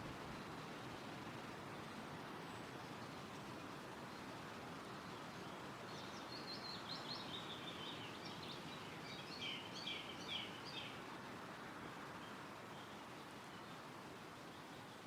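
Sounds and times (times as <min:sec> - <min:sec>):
wind rustling through trees: 0:00.0 - 0:15.0
songbird chirps and trills: 0:00.1 - 0:15.0.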